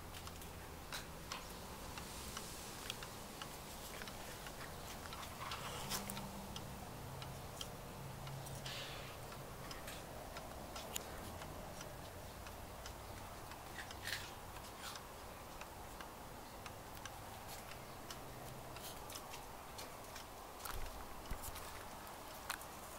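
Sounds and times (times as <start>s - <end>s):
wall clock ticking: 0.0s - 22.9s.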